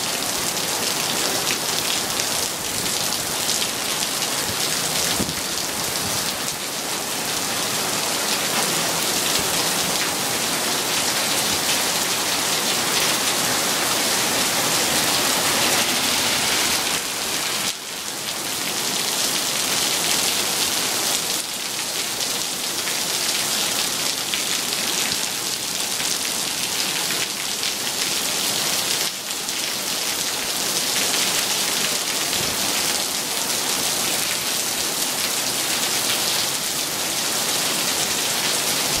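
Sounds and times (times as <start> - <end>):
heavy rain on pavement: 0.0 - 39.0.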